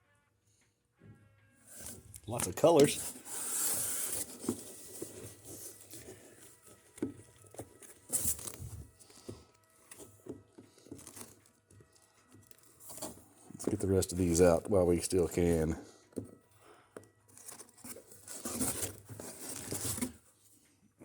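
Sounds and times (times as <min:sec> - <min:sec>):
paper pages rustling: 0:01.7 - 0:16.4, 0:17.3 - 0:20.4.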